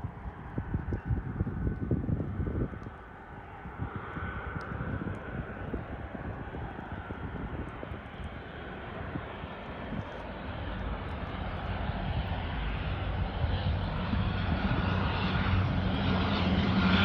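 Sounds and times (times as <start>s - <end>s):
propeller airplane drone: 0.0s - 17.0s.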